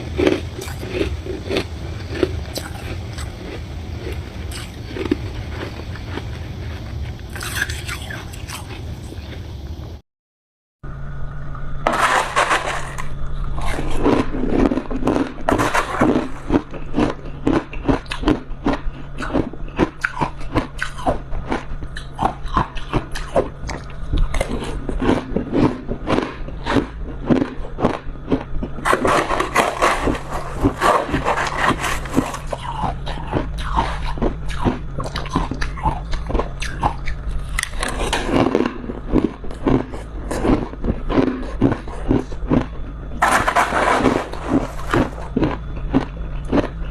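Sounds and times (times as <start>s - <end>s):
person crunching frost: 0.0s - 9.4s, 11.9s - 23.0s, 24.3s - 36.8s, 37.4s - 46.9s
steady low hum: 0.0s - 10.0s, 10.8s - 46.9s.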